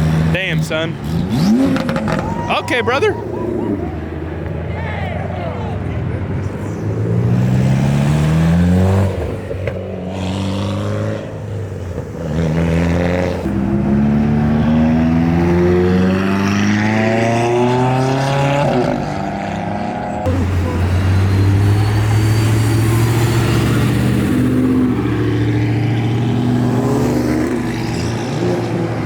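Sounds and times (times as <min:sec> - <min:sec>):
car engines accelerating hard: 0:00.0 - 0:29.0.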